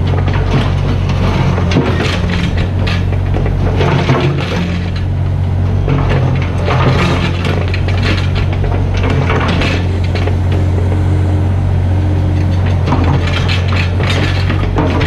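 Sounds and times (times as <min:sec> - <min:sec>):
diesel engine running: 0:00.0 - 0:15.0
excavator bucket crunching rubble: 0:00.0 - 0:15.0.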